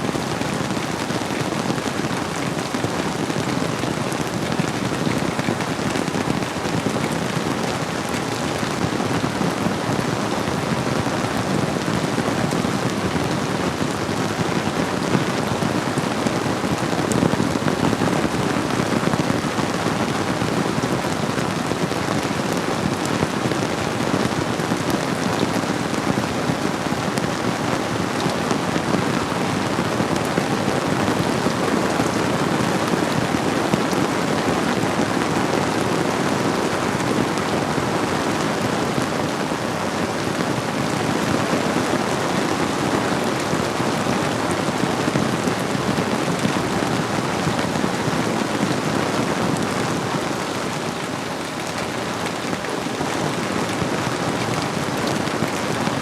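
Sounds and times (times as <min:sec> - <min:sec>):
flowing river: 0:00.0 - 0:56.0
steady rainfall: 0:00.0 - 0:56.0.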